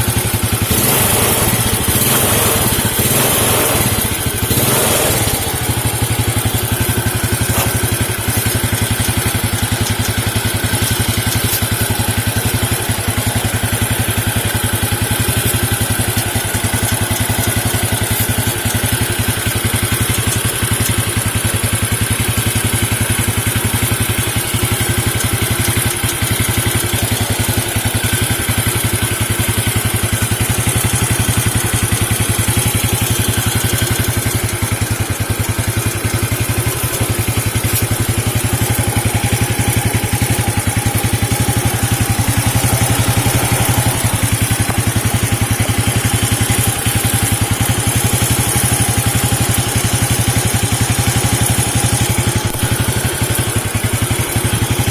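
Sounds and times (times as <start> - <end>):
engine idling: 0.0 - 54.9.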